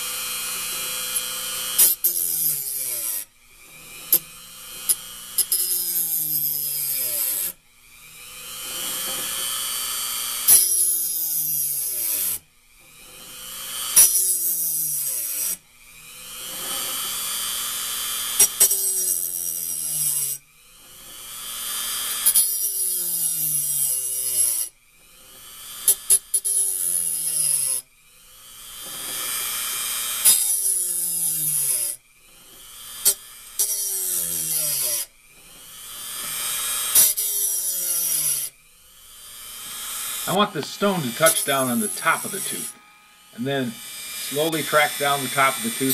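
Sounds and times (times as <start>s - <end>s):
rotary tool grinding metal: 0.0s - 45.9s.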